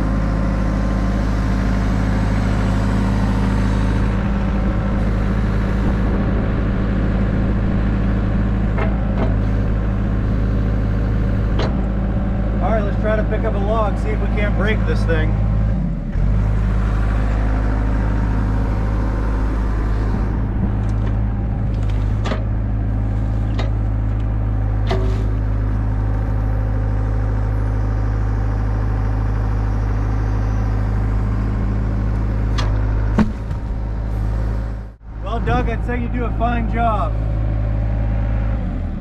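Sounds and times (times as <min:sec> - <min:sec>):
excavator diesel engine running: 0:00.0 - 0:39.0
hydraulics working: 0:00.0 - 0:39.0.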